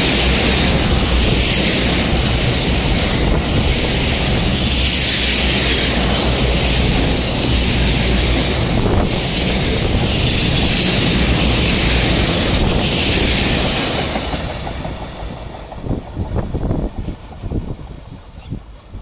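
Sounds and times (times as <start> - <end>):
train rushing past: 0.0 - 19.0
wheel clacks on rail: 0.0 - 19.0.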